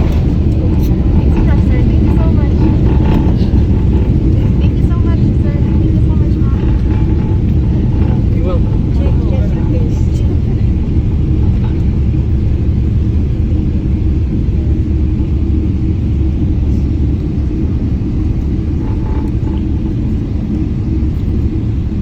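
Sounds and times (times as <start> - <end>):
airliner rumbling on runway: 0.0 - 22.0.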